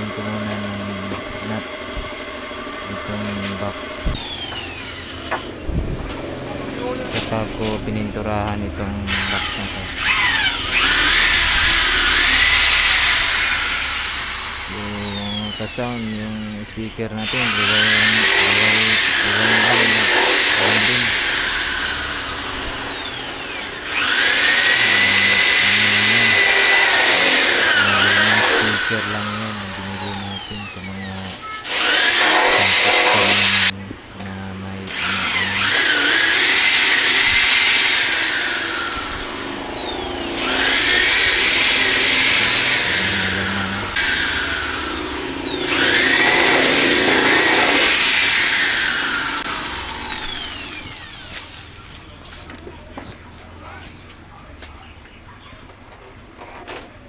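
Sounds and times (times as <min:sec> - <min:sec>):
power tool motor whining: 0:00.0 - 0:53.0.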